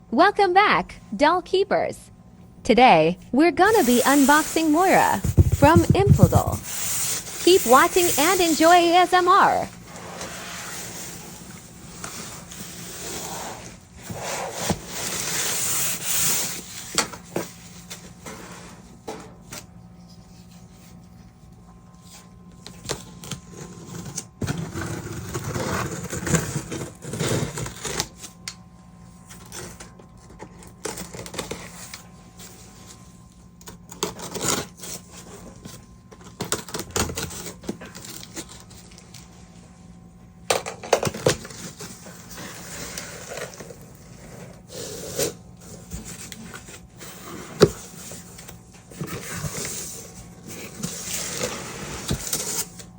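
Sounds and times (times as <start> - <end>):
packaging rustling and scraping: 3.6 - 28.4, 29.2 - 39.6, 41.0 - 52.9.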